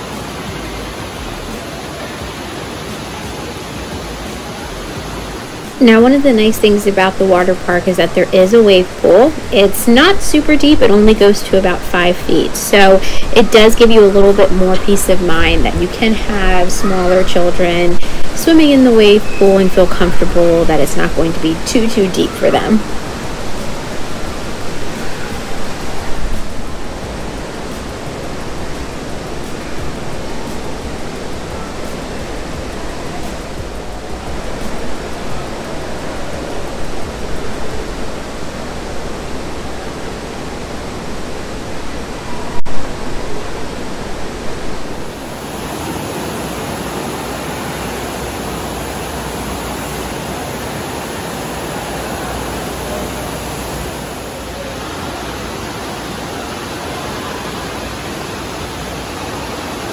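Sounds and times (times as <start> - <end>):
water rushing echoing indoors: 0.0 - 59.9.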